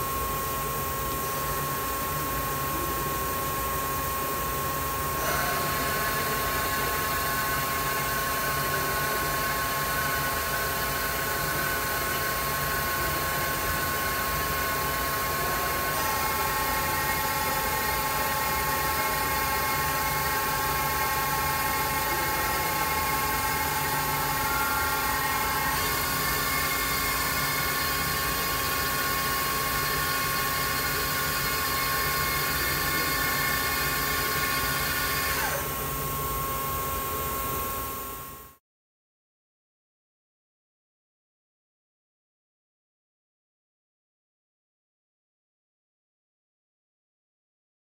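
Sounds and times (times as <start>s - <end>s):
mill spindle whine: 0.0s - 38.6s.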